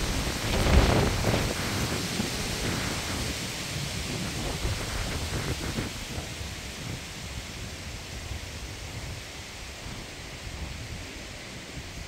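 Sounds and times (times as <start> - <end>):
wind buffeting microphone: 0.0 - 12.0
wind gusting through trees: 0.0 - 12.0.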